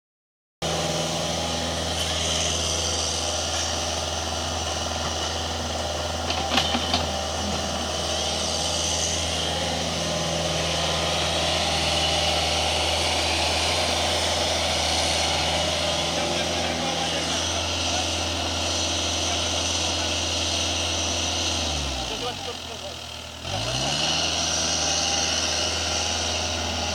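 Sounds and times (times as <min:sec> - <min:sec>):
diesel engine idling: 0:00.6 - 0:26.9.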